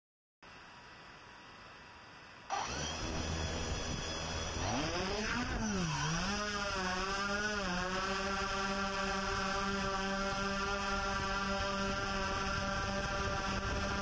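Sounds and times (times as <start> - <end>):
drone motors whining: 2.5 - 14.0.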